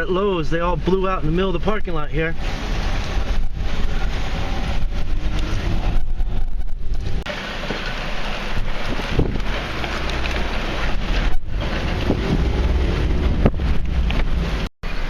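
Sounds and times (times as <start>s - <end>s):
strong wind gusting: 0.0s - 7.3s, 8.0s - 15.0s.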